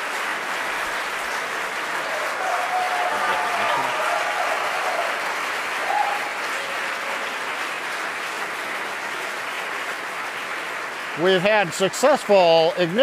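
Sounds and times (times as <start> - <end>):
crowd applauding and cheering: 0.0 - 13.0.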